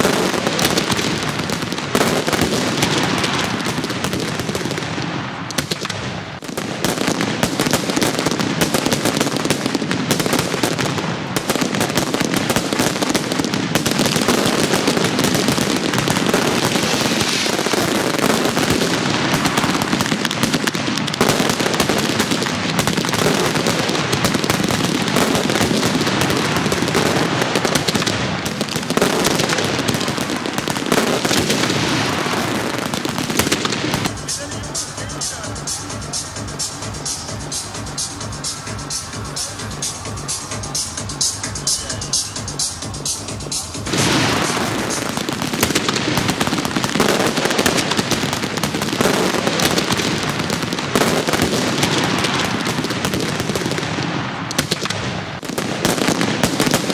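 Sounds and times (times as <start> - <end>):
fireworks crackling and popping: 0.0 - 56.9.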